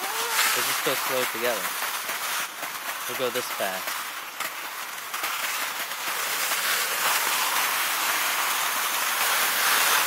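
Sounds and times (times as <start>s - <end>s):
skis sliding over snow: 0.0s - 10.0s.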